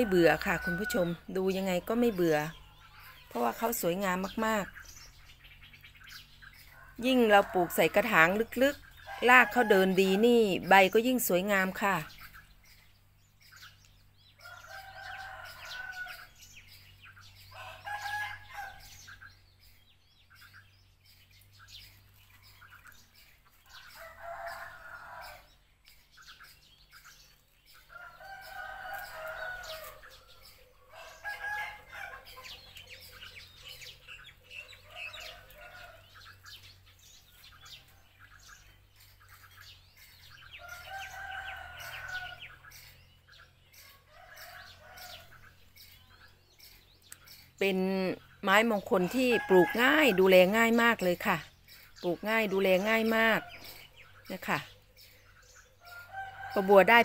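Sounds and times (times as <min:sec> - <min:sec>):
chickens calling: 0:00.0 - 0:57.0.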